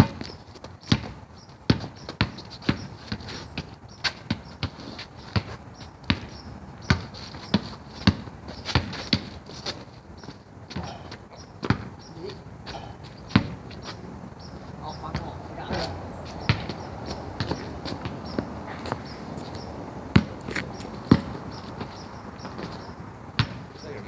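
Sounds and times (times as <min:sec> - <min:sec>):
basketball bouncing: 0:00.0 - 0:14.4, 0:15.0 - 0:23.8.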